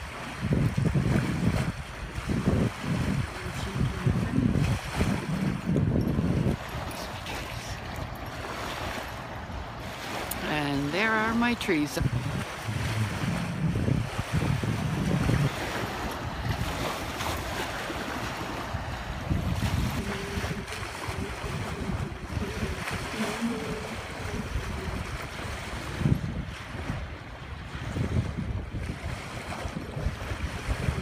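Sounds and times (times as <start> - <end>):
small waves washing onto shore: 0.0 - 31.0
wind buffeting microphone: 0.0 - 31.0.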